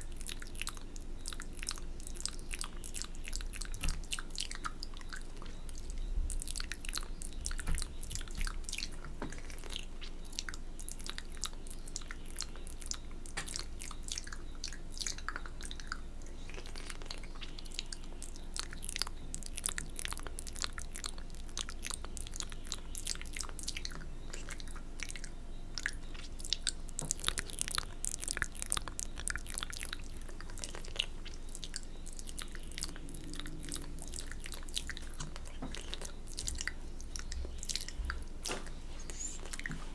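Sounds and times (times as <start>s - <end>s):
wet mouth clicks and licking: 0.0s - 39.8s.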